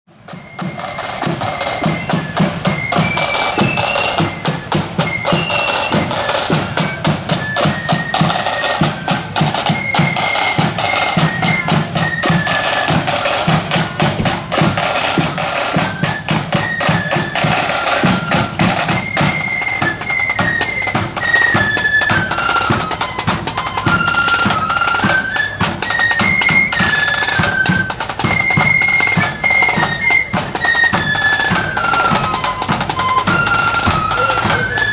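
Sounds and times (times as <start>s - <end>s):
flutes playing melody: 0.1s - 34.9s
snare and bass drums: 0.1s - 34.9s.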